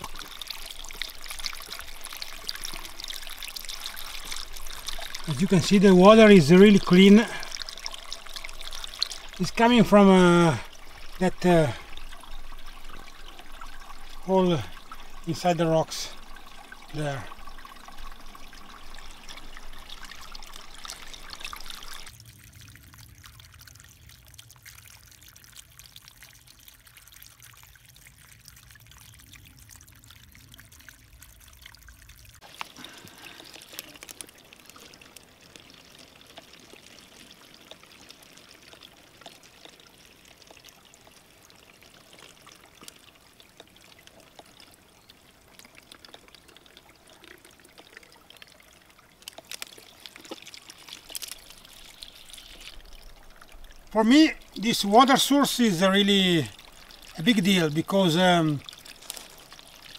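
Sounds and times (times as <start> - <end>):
water pouring into plastic bottle: 0.0 - 59.9
water trickling: 0.0 - 59.9.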